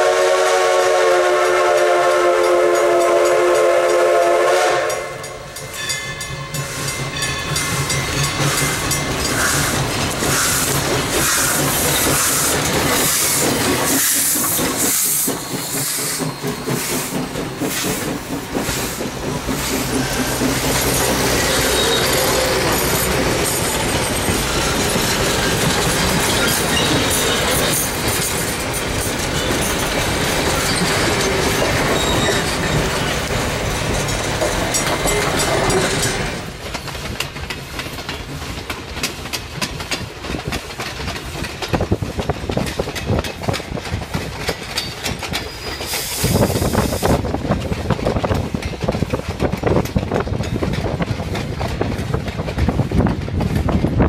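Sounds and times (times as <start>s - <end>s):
steam locomotive approaching: 0.0s - 54.0s
train wheels clicking over rail joints: 0.1s - 54.0s.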